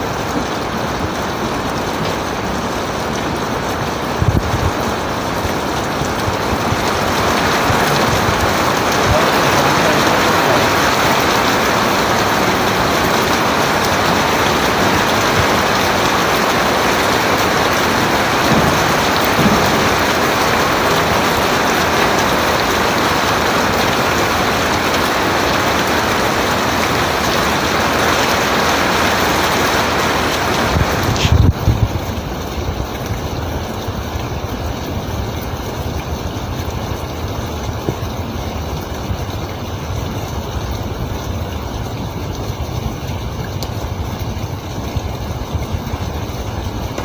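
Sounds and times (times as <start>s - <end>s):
heavy rain falling: 0.0s - 47.0s.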